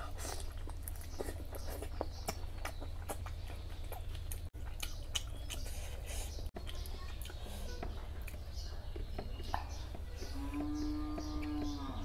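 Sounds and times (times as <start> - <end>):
man chewing with wet smacks: 0.0 - 10.1.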